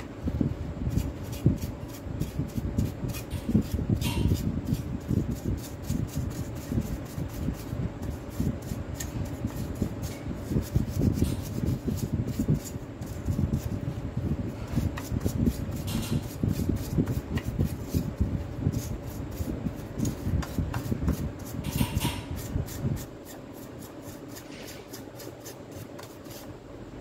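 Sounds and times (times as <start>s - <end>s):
faint steady hum: 0.0s - 27.0s
paintbrush scrubbing plastic: 0.9s - 26.5s.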